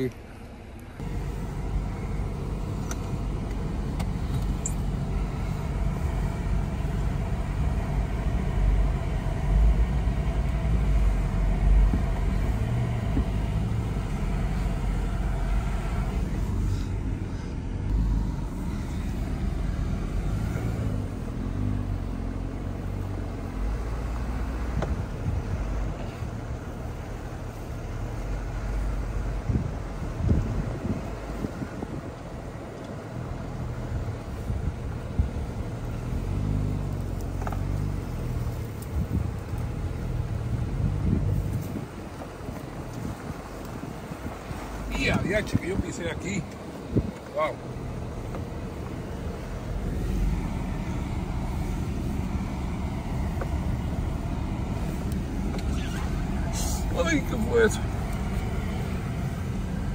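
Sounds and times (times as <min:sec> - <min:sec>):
engine and road rumble: 0:00.0 - 0:59.9.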